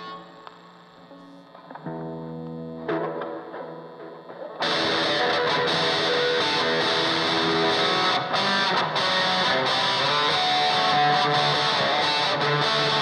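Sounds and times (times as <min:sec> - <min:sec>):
distorted electric guitar riff: 0:00.0 - 0:13.0.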